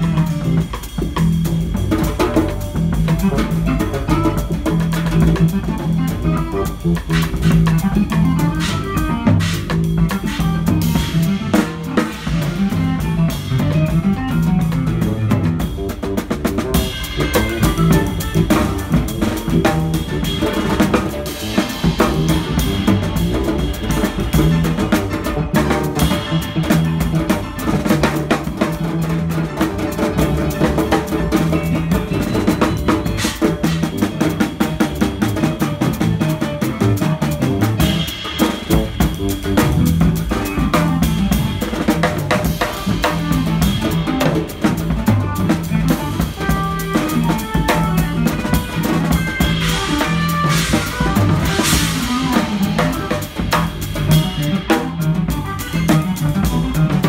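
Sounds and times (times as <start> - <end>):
bass notes: 0.0 - 57.0
drum kit played with sticks: 0.0 - 57.0
hand-played congas: 0.0 - 57.0.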